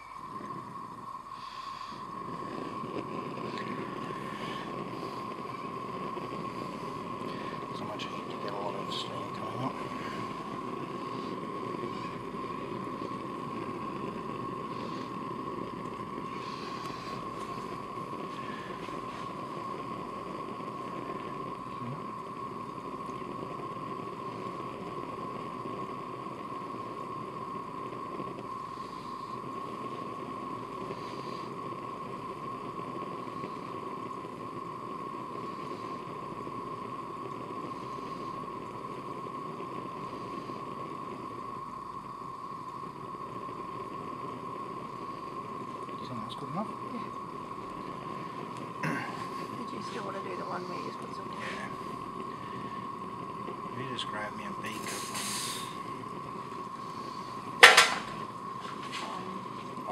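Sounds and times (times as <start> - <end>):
high-pitched hum: 0.0 - 59.9
water simmering: 0.0 - 59.9.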